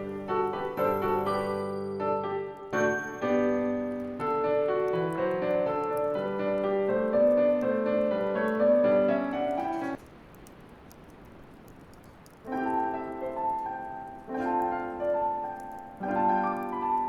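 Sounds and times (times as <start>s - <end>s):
gentle solo piano song: 0.0s - 10.0s, 12.4s - 17.0s
bonfire crackling: 0.0s - 17.0s.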